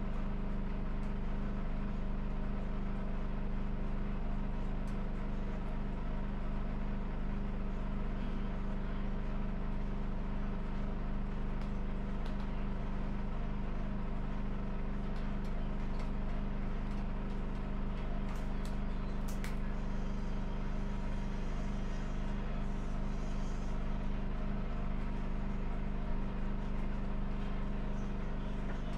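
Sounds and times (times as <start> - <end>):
low mechanical hum: 0.0 - 28.9.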